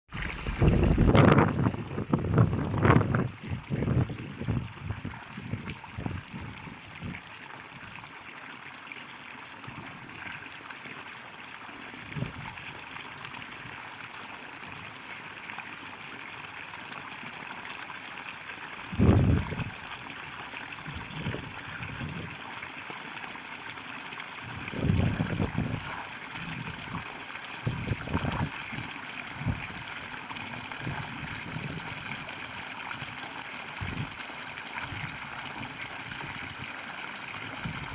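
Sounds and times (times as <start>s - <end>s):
spring water trickling: 0.1s - 37.9s.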